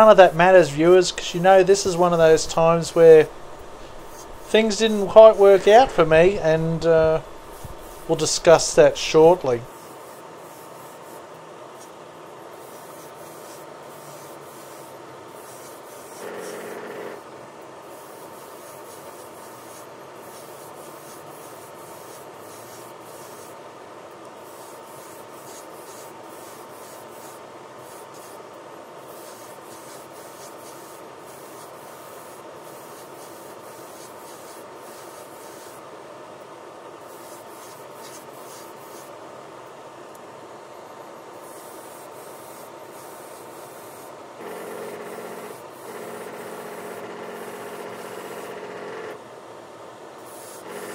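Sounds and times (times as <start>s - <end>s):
airbrush spraying hiss: 0.0s - 17.0s, 17.8s - 23.6s, 24.4s - 35.8s, 37.0s - 39.1s, 41.4s - 48.6s, 50.2s - 50.9s
faint constant tone: 0.0s - 50.9s.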